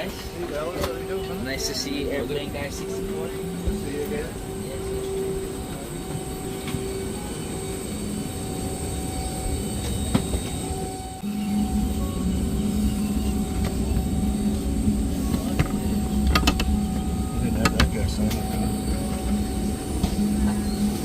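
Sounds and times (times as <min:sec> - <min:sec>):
aircraft cabin hum: 0:00.0 - 0:21.0.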